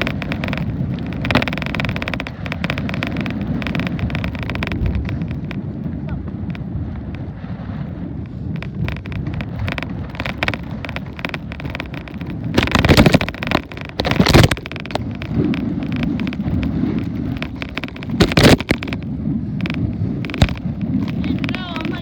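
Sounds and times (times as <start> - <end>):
rattling clicks: 0.0 - 5.7, 8.4 - 22.0
wind buffeting microphone: 0.0 - 22.0.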